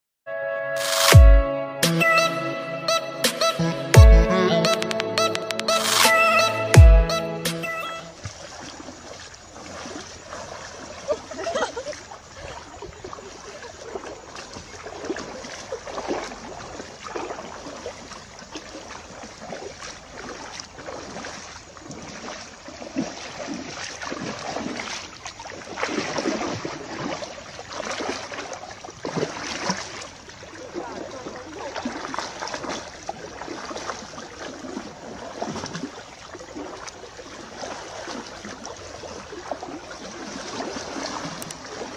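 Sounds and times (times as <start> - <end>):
people wading through water: 5.1 - 41.9.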